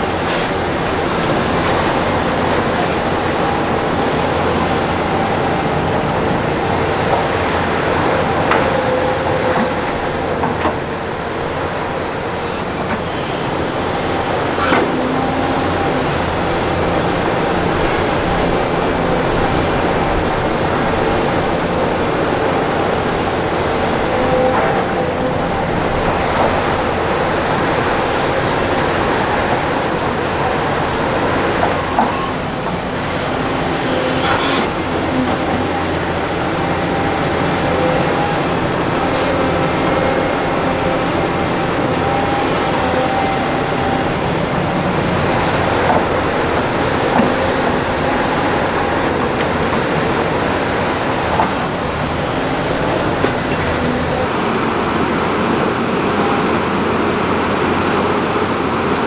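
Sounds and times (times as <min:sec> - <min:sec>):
diesel machinery rumbling: 0:00.0 - 0:59.0.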